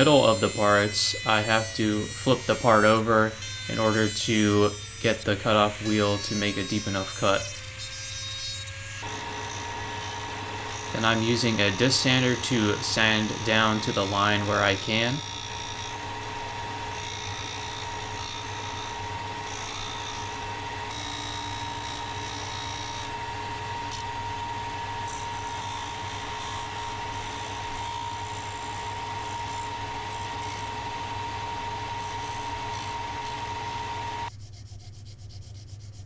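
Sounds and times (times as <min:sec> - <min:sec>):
disc grinding: 0:00.0 - 0:34.3
disc sander whining: 0:00.0 - 0:34.3.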